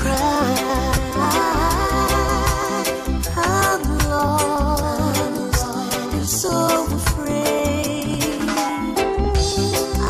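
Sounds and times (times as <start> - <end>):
reggae song with singer: 0.0 - 10.0.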